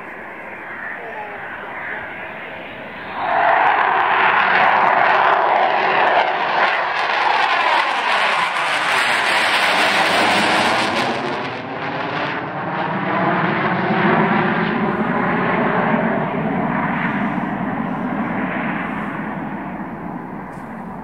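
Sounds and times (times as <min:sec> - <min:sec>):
jet passing overhead: 0:00.0 - 0:21.0.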